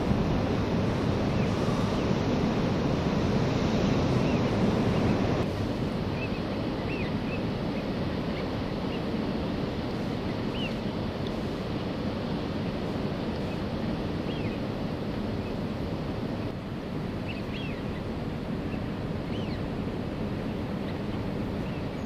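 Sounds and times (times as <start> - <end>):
choppy water: 0.0 - 22.0
wind: 0.0 - 22.0.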